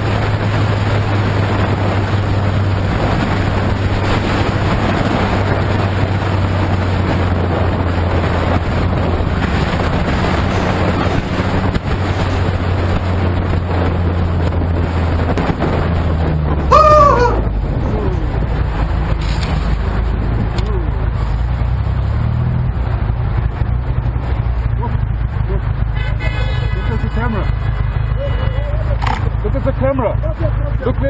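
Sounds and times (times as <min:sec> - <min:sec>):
wind rushing: 0:00.0 - 0:25.3
motorcycle engine running: 0:00.0 - 0:31.0.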